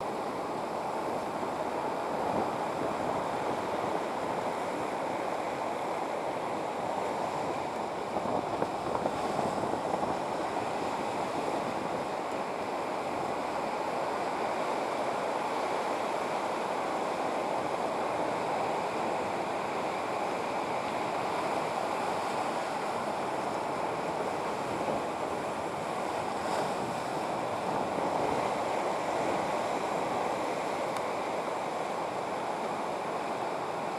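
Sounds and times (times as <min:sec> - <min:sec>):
waves rushing: 0:00.0 - 0:33.9
wind: 0:00.0 - 0:33.9.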